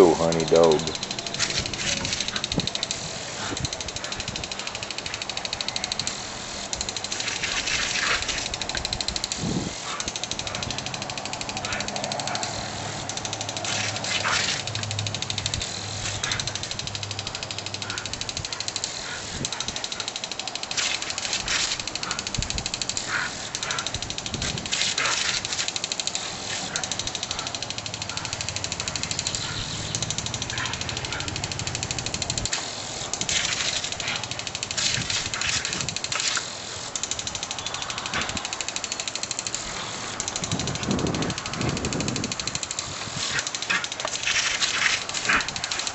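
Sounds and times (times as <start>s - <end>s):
water hissing from garden hose: 0.0s - 45.9s.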